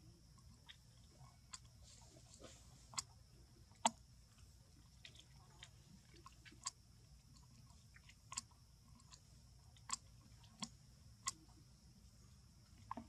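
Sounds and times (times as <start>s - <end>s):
monkey chewing: 0.4s - 11.5s.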